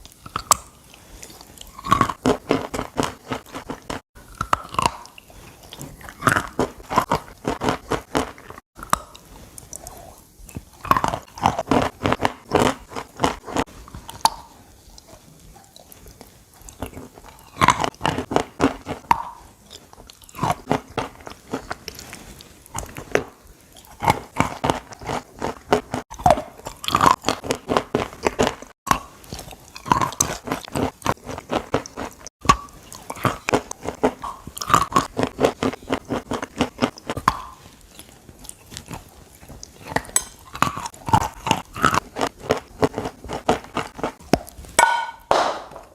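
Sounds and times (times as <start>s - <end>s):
chewing crunchy chalk: 0.0s - 44.7s.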